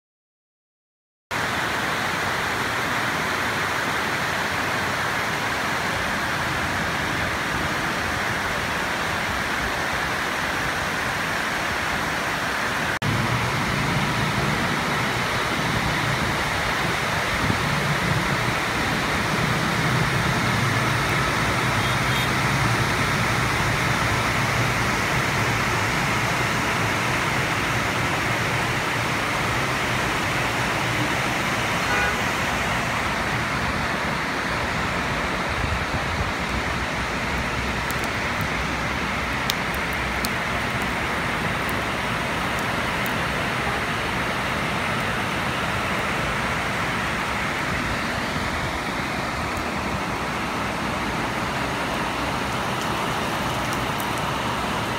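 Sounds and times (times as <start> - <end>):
heavy rain pouring: 1.3 - 54.9
road traffic rumble: 1.3 - 54.9.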